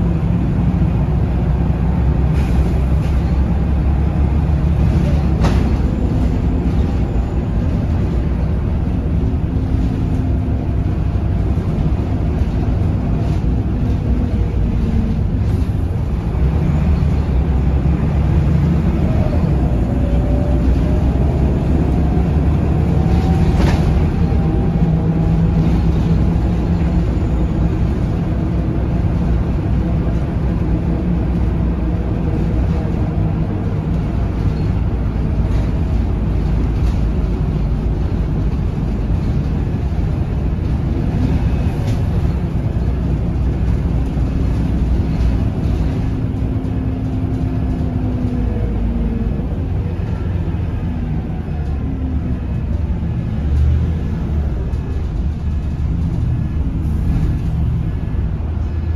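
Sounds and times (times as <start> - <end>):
bus diesel engine running: 0.0 - 58.9
tyre and road noise: 0.0 - 58.9.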